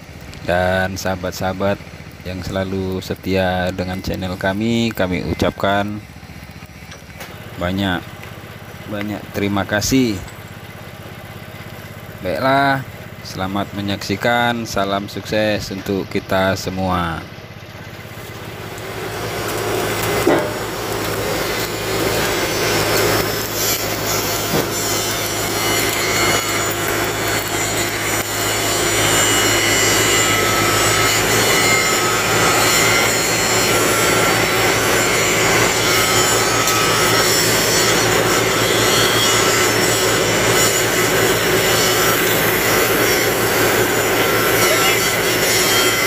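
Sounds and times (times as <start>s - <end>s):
rasping grinding machinery: 0.0s - 46.0s.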